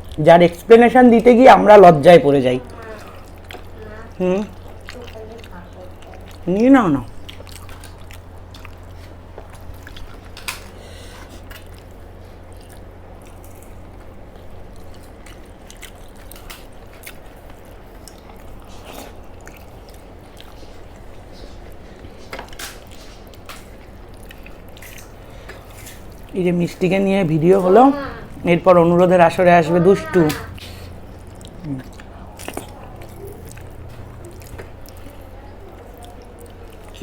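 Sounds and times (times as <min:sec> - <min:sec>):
steady low hum: 0:00.0 - 0:37.0
faint chewing: 0:02.6 - 0:37.0.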